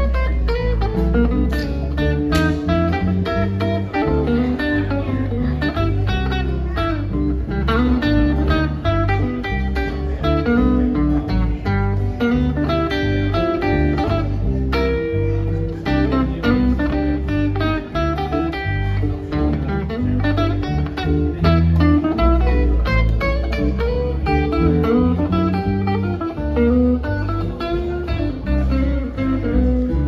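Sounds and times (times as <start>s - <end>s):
acoustic guitar: 0.0s - 30.0s
electric bass: 0.0s - 30.0s
electric guitar picking: 0.0s - 30.0s.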